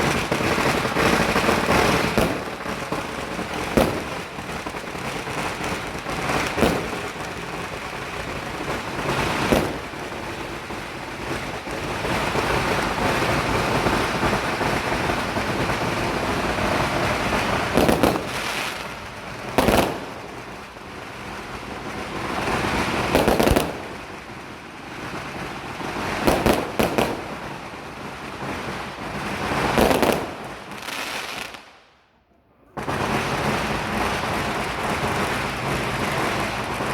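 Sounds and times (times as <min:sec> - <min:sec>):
firecrackers crackling: 0:00.0 - 0:36.9
fireworks bangs: 0:00.0 - 0:36.9.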